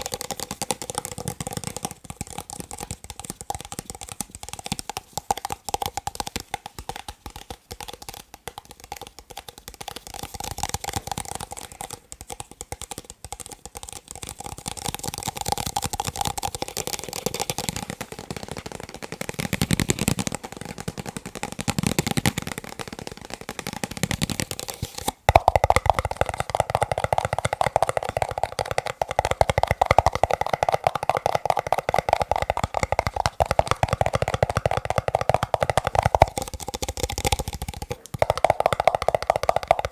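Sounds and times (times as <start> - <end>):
tapping on plastic cups: 0.0 - 39.9.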